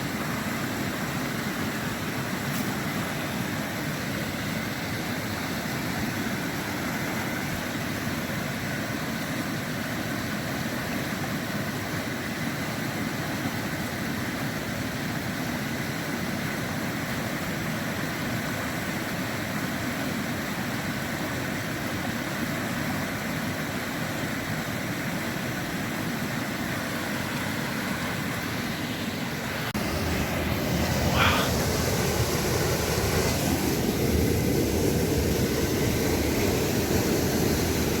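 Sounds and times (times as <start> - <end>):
small waterfall rushing: 0.0 - 38.0.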